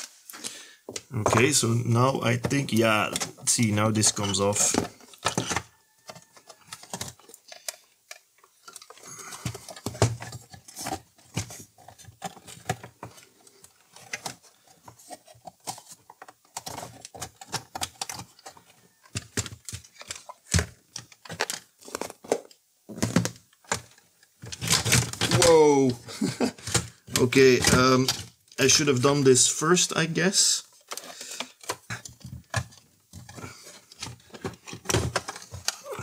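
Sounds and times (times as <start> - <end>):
plastic parts clicking and knocking: 0.2 - 29.0, 30.6 - 36.0.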